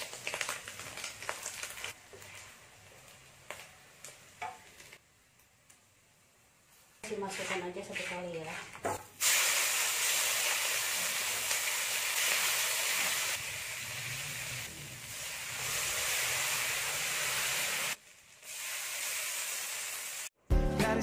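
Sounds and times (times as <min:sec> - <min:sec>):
chili paste sizzling in oil: 0:00.0 - 0:20.4.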